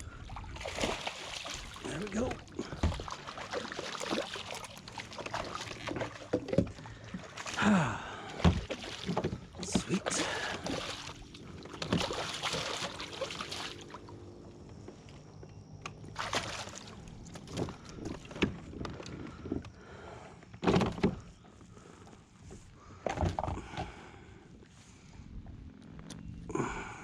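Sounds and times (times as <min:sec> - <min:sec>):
water splashing and sloshing: 0:00.0 - 0:15.2, 0:15.8 - 0:25.1.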